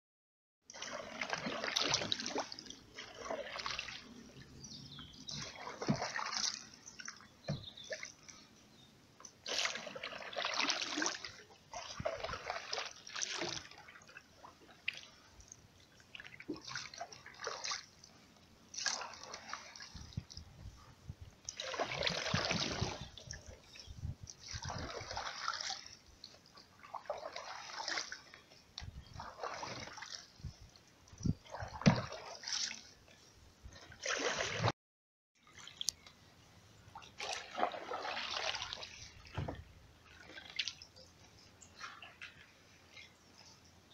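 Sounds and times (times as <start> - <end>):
paddle splashing water: 0.7 - 34.7, 35.4 - 43.9.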